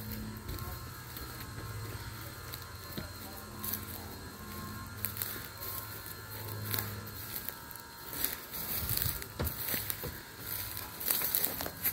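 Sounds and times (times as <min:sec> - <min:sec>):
footsteps crunching on gravel: 0:00.0 - 0:11.9.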